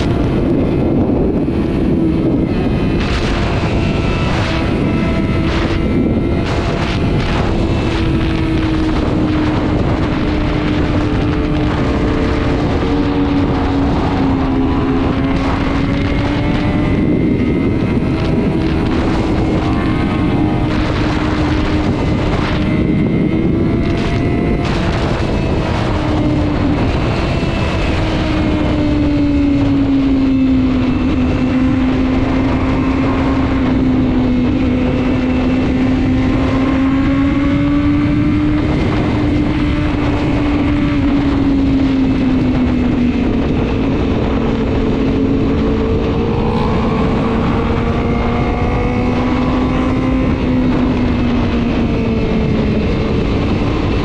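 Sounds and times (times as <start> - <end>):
motorcycle engine droning: 0.0 - 54.0
wind rushing over microphone: 0.0 - 54.0.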